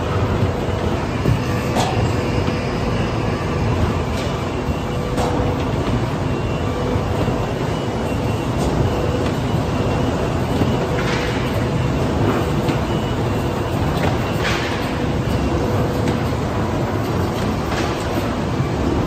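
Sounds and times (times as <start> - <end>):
printing machine running: 0.0 - 19.0.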